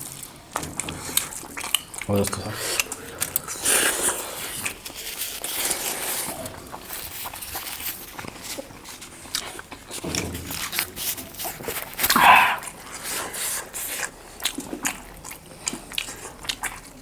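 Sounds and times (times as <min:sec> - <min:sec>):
chewing and mouth smacking: 0:00.0 - 0:17.0.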